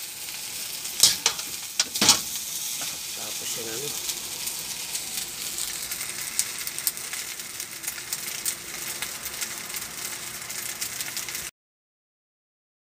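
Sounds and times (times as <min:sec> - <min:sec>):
rice sizzling in a wok: 0:00.0 - 0:11.5.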